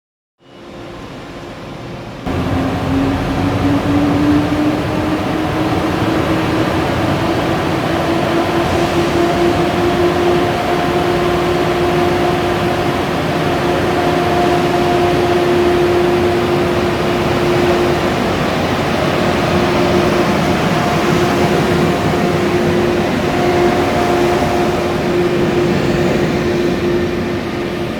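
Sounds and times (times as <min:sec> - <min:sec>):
electric locomotive whine: 0:00.4 - 0:27.9
train running gear rumble: 0:02.3 - 0:27.9.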